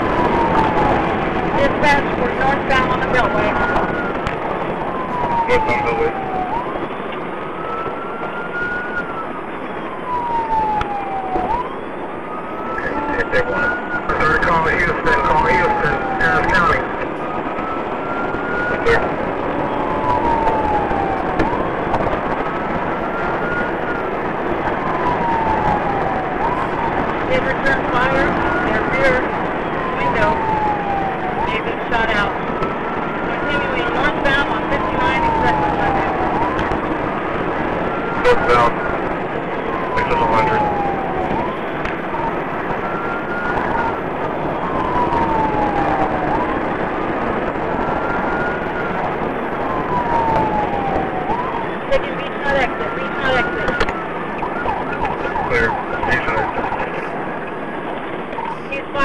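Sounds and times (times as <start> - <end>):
car engine and tyre noise: 0.0 - 59.0
police siren wailing: 0.0 - 59.0.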